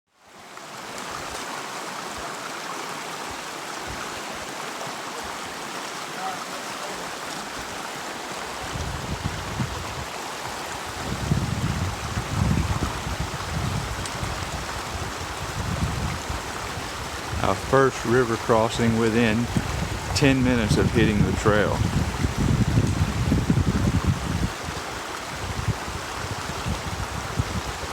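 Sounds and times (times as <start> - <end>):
creek water rushing: 0.2 - 27.9.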